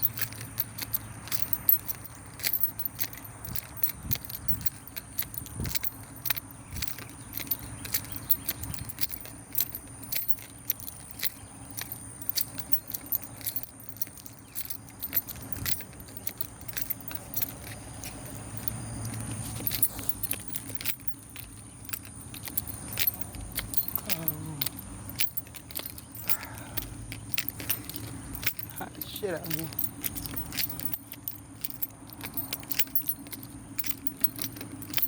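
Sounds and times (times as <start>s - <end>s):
footsteps crunching and rustling: 0.0s - 35.0s.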